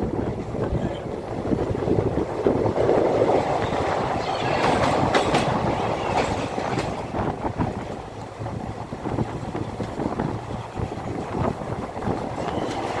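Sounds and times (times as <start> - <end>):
train wheels clattering on rails: 0.4 - 13.0.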